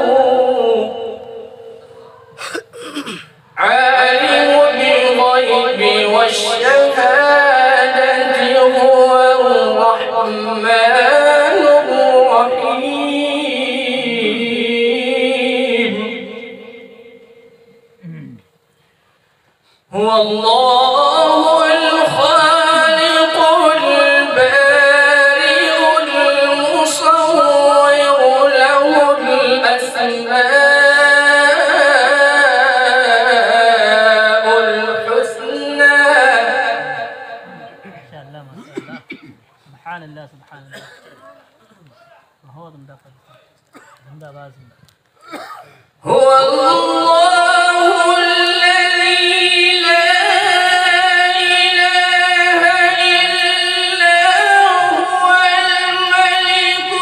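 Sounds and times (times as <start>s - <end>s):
man reciting melodically: 0.0s - 18.5s, 19.9s - 57.0s.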